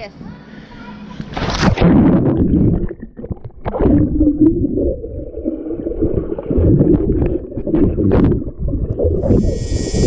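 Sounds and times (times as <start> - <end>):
muffled underwater gurgling: 1.8 - 10.0.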